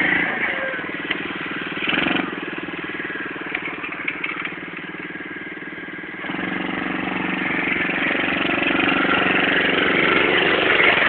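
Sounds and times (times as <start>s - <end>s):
small atv engine running: 0.0s - 11.0s.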